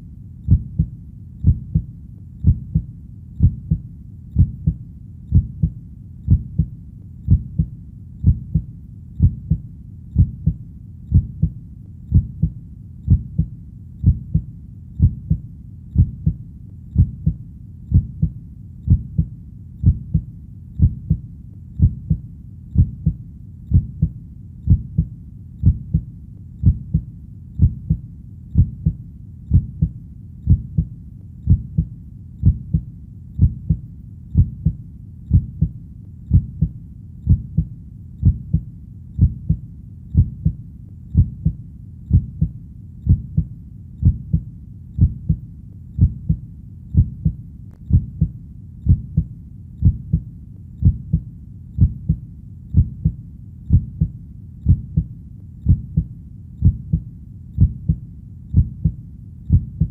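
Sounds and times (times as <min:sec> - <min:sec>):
heartbeat lub-dub thumps: 0:00.0 - 0:59.9.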